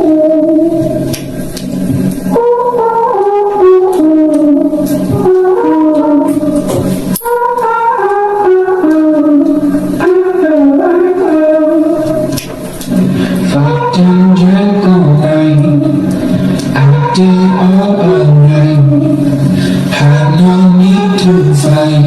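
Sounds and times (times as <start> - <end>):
music from portable speaker: 0.0 - 22.0.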